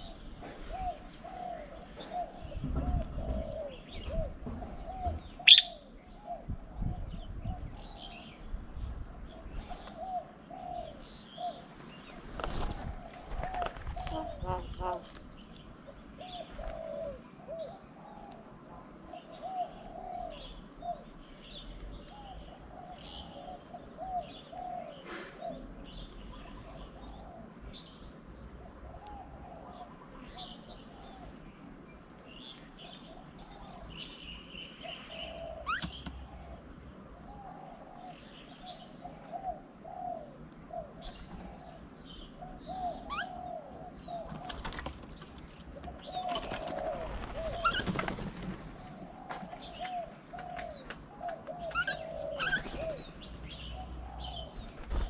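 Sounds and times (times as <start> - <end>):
doves cooing: 0.0 - 31.9, 32.6 - 55.0
birds chirping: 0.0 - 55.0.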